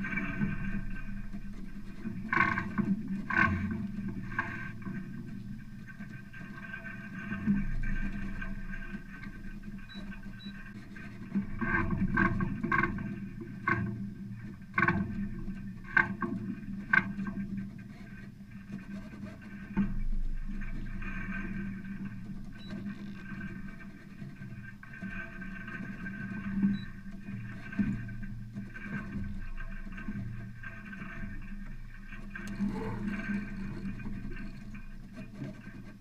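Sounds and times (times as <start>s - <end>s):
water rushing along hull: 0.0s - 36.0s.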